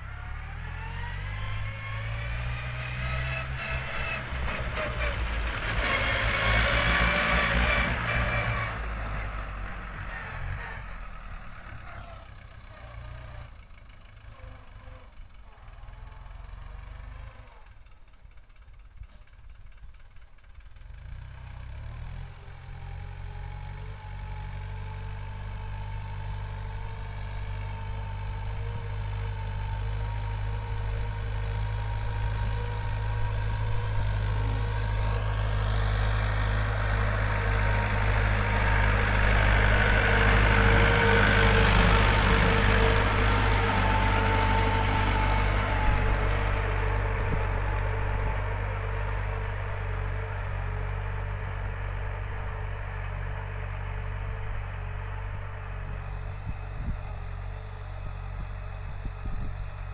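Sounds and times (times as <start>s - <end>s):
tractor engine throbbing: 0.0s - 15.4s, 16.3s - 59.9s.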